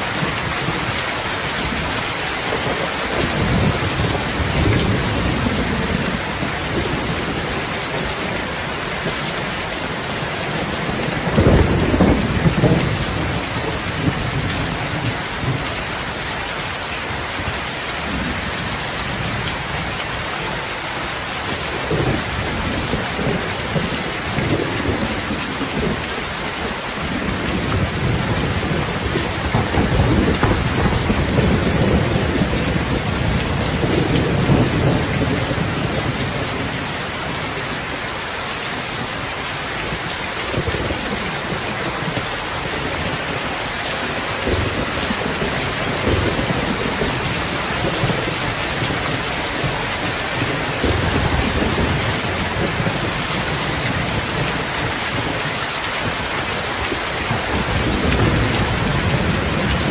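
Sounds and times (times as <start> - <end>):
thunder rumbling: 0.0 - 16.2, 21.5 - 37.9, 39.0 - 59.9
heavy rain: 0.0 - 59.9.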